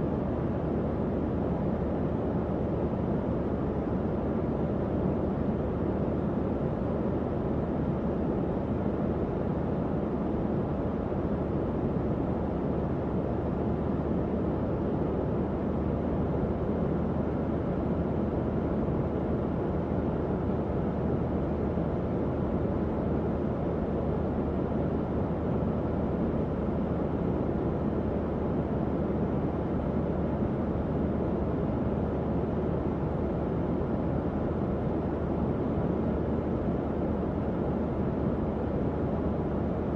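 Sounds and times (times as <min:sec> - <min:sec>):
faint fan hum: 0:00.0 - 0:39.9.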